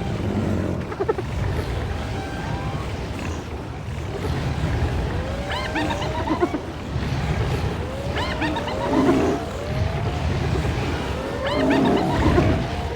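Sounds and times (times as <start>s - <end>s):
wild animal calls: 0.0s - 12.9s.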